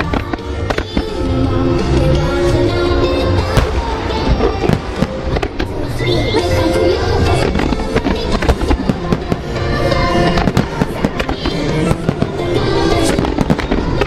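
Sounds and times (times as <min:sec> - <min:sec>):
fireworks bursting: 0:00.0 - 0:14.0
loud music over loudspeakers: 0:00.0 - 0:14.0.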